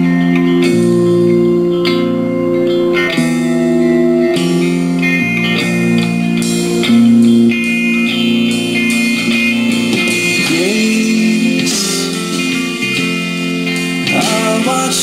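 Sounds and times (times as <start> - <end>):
slow guitar song from speaker: 0.0 - 15.0.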